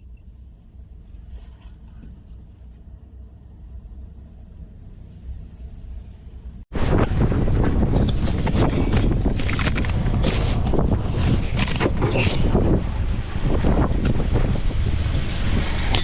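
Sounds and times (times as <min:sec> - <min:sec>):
quiet vehicle rumble: 0:00.0 - 0:16.0
gusty wind buffeting microphone: 0:02.3 - 0:16.0.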